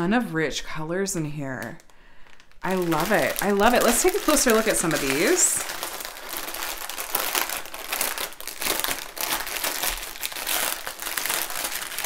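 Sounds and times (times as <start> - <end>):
plastic packaging crinkling: 1.6 - 12.0.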